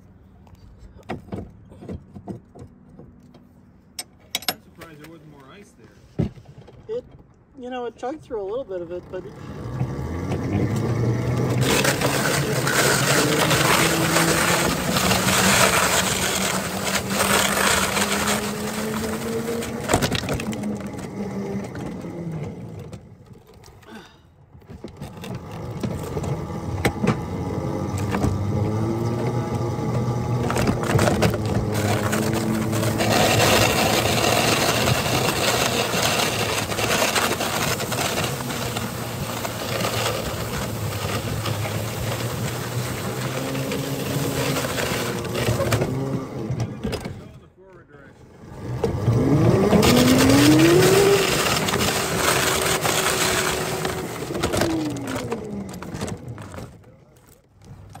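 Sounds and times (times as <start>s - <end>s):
plow scraping through snow: 7.7s - 23.2s, 24.8s - 47.3s, 48.2s - 58.0s
locomotive motor: 7.8s - 23.9s, 24.6s - 58.0s.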